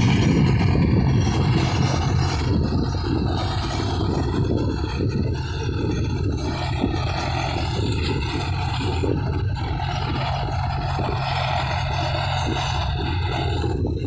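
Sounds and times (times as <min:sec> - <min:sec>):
rotavator churning mud and water: 0:00.0 - 0:14.0
tractor diesel engine under load: 0:00.0 - 0:14.0.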